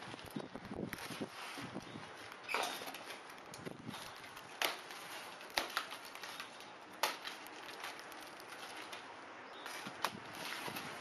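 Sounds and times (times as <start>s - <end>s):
foam clicks and scrapes: 0.0s - 11.0s.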